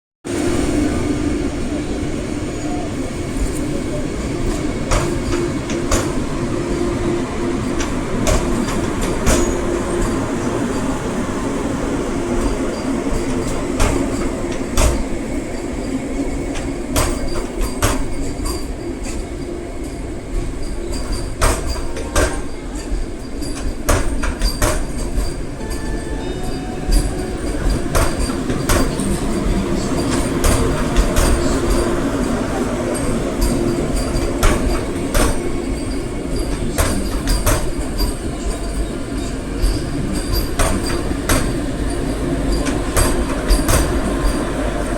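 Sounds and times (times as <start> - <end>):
electric train rumbling on rails: 0.2 - 44.9
wheels clicking on track: 2.0 - 44.9.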